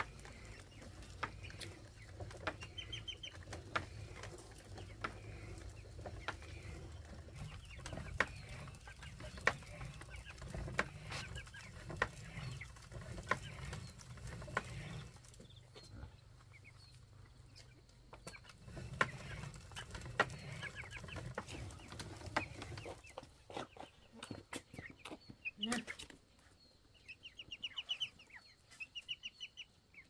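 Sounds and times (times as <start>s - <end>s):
chickens clucking and chirping: 0.0s - 30.0s.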